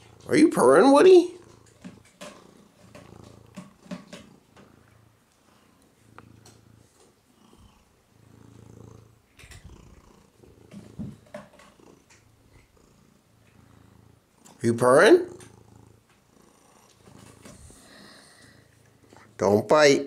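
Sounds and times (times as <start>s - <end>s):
cat purring: 0.0s - 19.8s.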